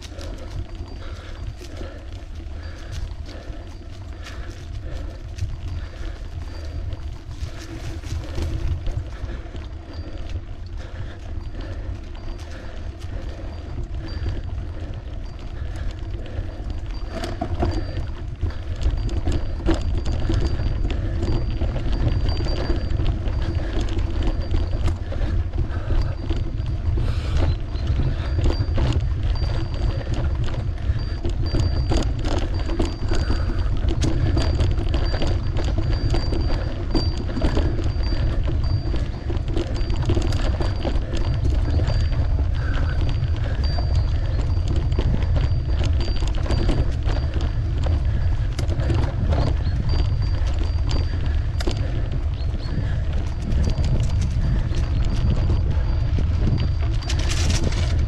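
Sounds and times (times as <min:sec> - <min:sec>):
bicycle rattling over bumps: 0:00.0 - 0:58.0
bicycle tyres on road: 0:00.0 - 0:58.0
wind on microphone: 0:00.0 - 0:58.0.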